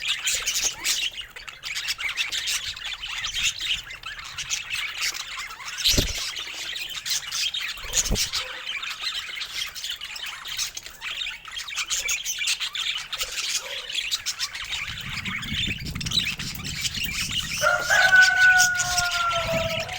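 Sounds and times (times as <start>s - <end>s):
budgerigars chattering and chirping: 0.0s - 19.9s.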